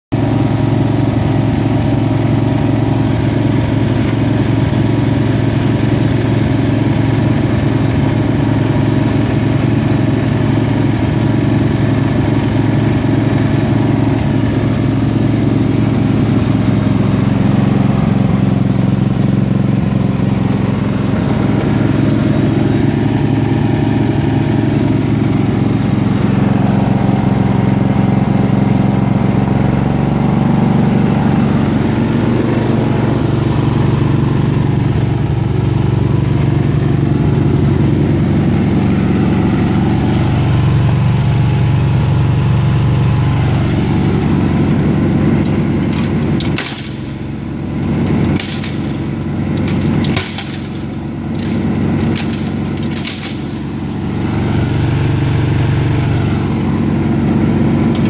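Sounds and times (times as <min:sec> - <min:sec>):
small engine running steadily: 0:00.1 - 0:58.0.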